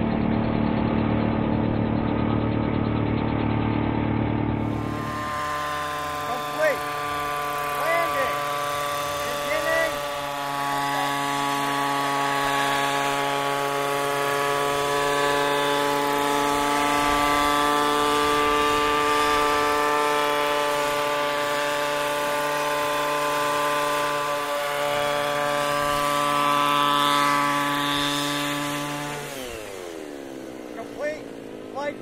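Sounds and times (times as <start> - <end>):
model helicopter buzzing: 0.0 - 32.0.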